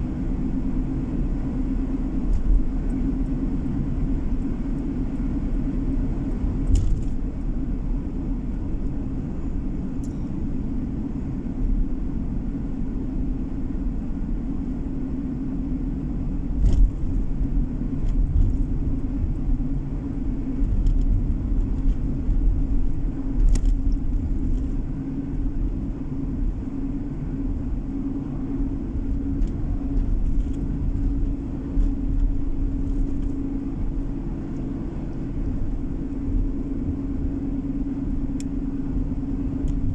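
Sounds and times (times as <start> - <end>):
car engine and tyre hum: 0.0 - 39.9.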